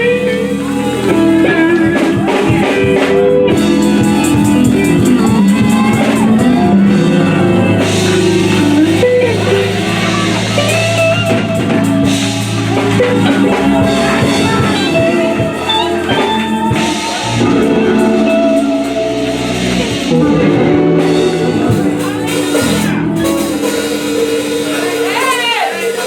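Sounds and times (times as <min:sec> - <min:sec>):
live band music: 0:00.0 - 0:26.0.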